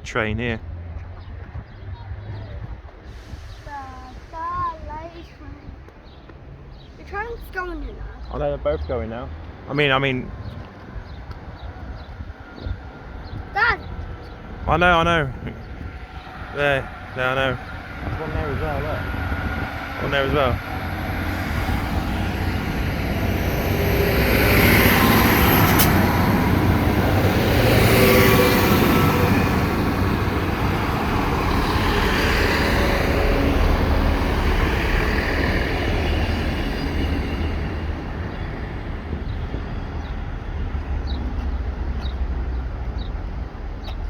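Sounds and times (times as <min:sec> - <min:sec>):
diesel train rumbling: 0:00.0 - 0:44.0.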